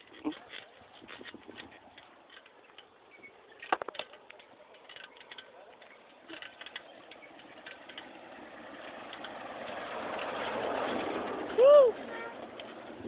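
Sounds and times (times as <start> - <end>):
bicycle rattling on dirt road: 0.0 - 13.0
motor vehicle approaching: 0.0 - 13.0.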